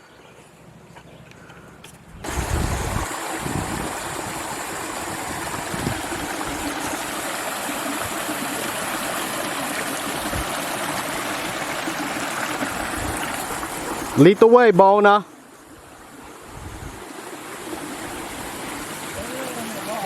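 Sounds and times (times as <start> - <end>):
brook rushing over rocks: 2.2 - 14.4, 16.0 - 20.0.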